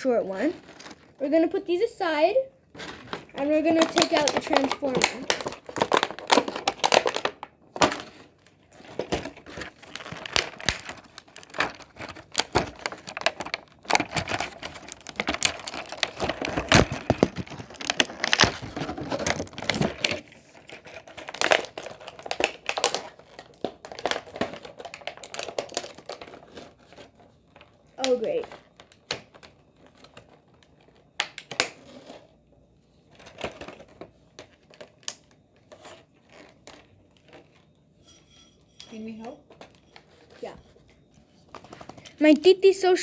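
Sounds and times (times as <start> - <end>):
plastic bag crinkling: 0.0 - 32.4, 33.1 - 37.8.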